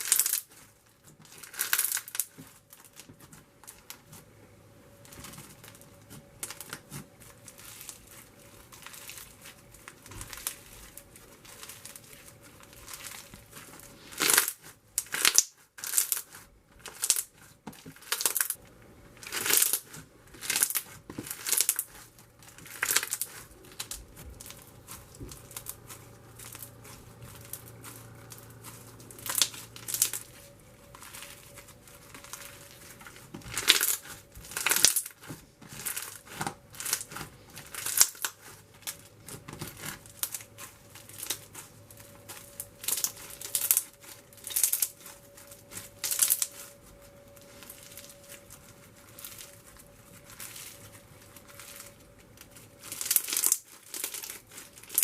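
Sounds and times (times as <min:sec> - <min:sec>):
foam slime crunching and popping: 0:00.0 - 0:04.3, 0:04.9 - 0:55.0.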